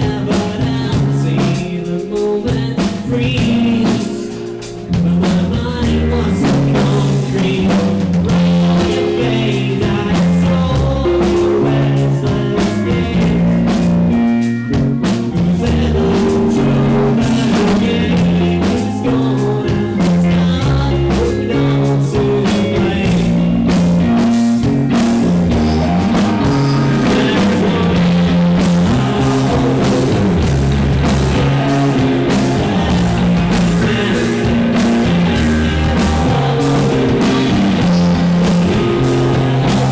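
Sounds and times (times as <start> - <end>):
man singing: 0.0 - 14.2, 15.1 - 39.9
distorted electric guitar: 0.0 - 39.9
drum kit: 0.0 - 39.9
electric bass: 0.0 - 39.9.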